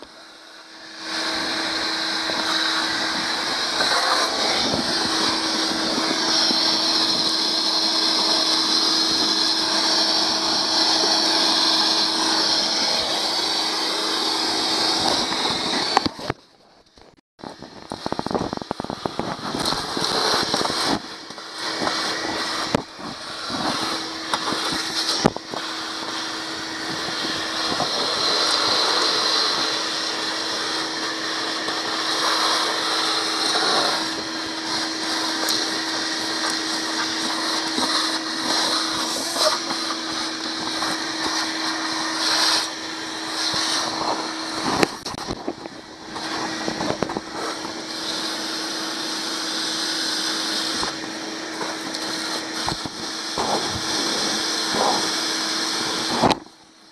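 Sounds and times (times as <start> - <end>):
vacuum cleaner running: 0.0 - 56.9.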